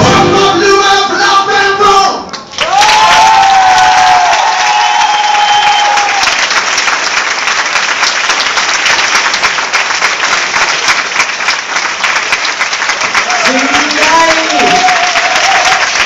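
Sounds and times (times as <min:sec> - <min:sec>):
audience applauding: 0:02.3 - 0:16.0.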